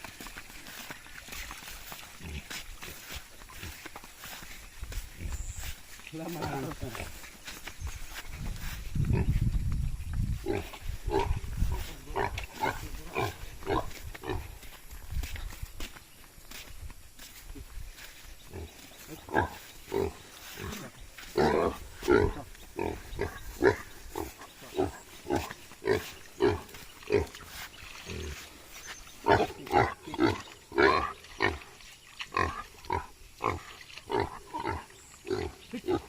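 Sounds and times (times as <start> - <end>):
farm animals calling: 0.0 - 9.5, 10.3 - 15.6, 17.4 - 36.0.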